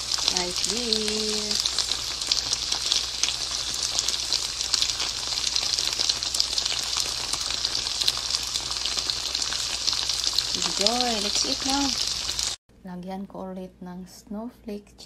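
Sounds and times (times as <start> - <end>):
meat sizzling in a pan: 0.0 - 12.6.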